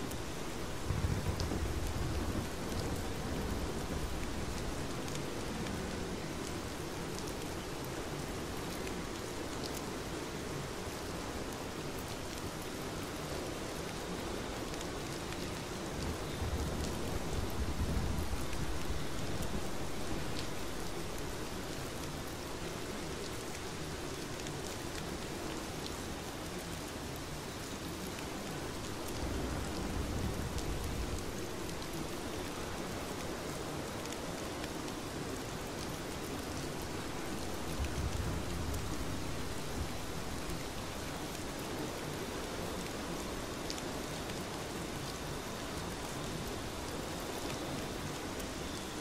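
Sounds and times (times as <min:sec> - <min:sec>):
dense rain falling: 0:00.0 - 0:49.0.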